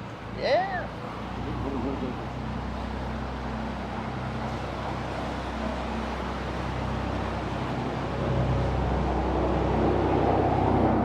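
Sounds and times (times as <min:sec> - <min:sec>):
boat engines humming: 0:00.0 - 0:11.0.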